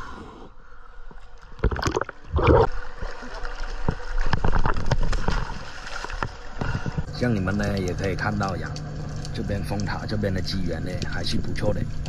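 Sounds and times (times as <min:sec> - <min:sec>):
water splashing against boat: 0:01.6 - 0:12.0.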